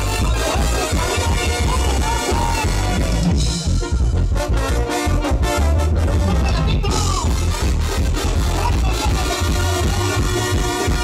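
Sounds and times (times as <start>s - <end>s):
heavy steady bass beat: 0.0s - 11.0s
regional band music: 0.0s - 11.0s.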